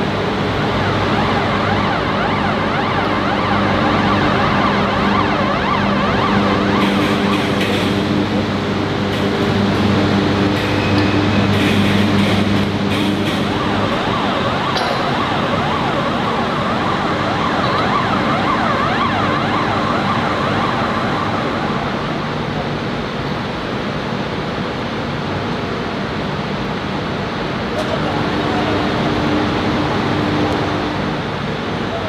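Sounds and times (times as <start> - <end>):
warning siren wailing: 0.0 - 23.1, 27.8 - 32.0
loud machinery noise: 0.0 - 32.0.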